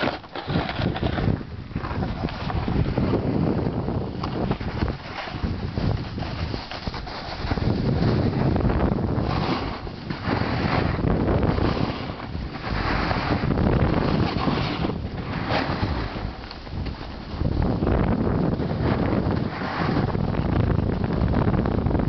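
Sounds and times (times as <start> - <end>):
snowboard scraping packed snow: 0.0 - 22.0
wind rumbling on microphone: 0.0 - 22.0.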